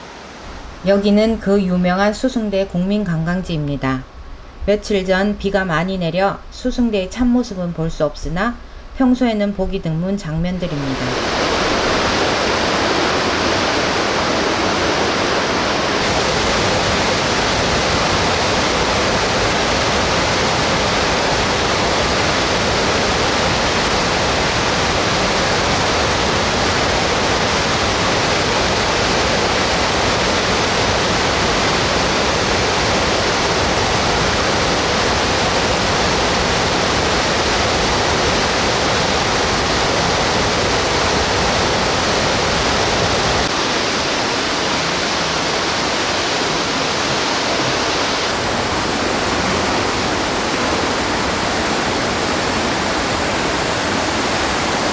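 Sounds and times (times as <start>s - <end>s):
stream rushing over rocks: 0.0s - 0.9s, 10.6s - 54.9s.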